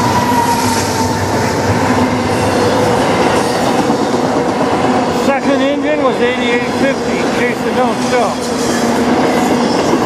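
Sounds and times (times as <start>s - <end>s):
steel train wheels on rails: 0.0s - 10.0s.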